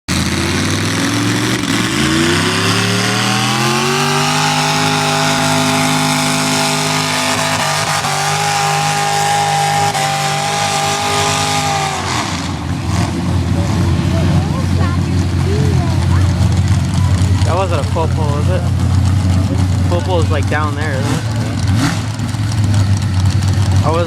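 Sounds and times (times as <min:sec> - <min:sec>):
tractor engine revving under load: 0:00.1 - 0:24.0.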